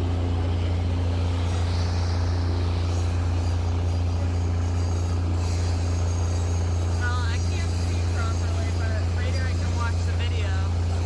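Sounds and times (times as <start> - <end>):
diesel railcar engine droning: 0.0 - 11.0.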